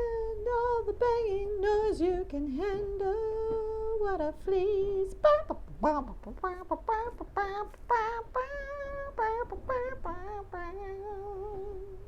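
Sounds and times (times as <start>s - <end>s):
high voice singing wordlessly: 0.0s - 12.0s.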